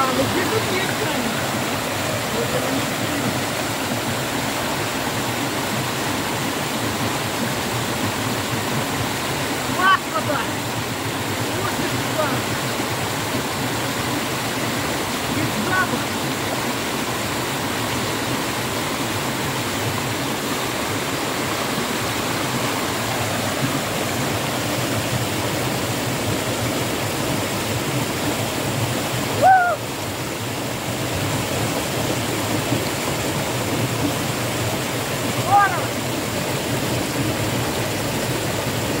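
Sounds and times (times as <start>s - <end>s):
river water over rapids: 0.0s - 39.0s.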